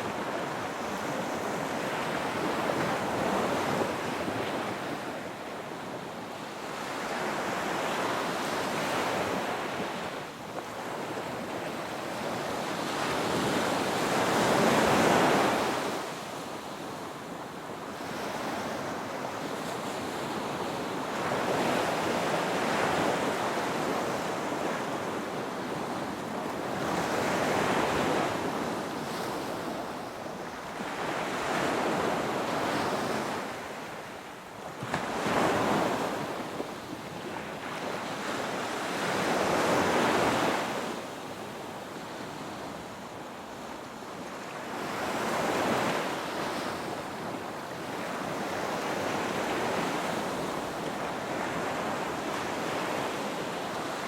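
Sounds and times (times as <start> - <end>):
waves breaking and washing: 0.0 - 54.0.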